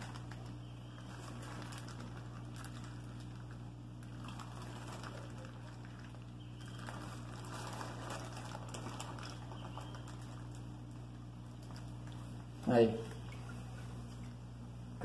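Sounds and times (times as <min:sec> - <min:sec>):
plastic bag rustling: 0:00.0 - 0:14.3
crackle: 0:00.0 - 0:14.4
water spilling into aquarium: 0:00.0 - 0:14.9
steady low hum: 0:00.0 - 0:15.0.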